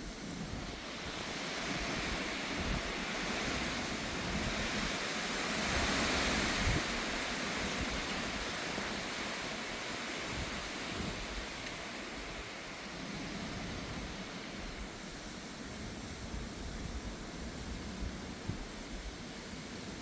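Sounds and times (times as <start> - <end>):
gusty wind: 0.0 - 20.0
wind buffeting microphone: 0.0 - 20.0.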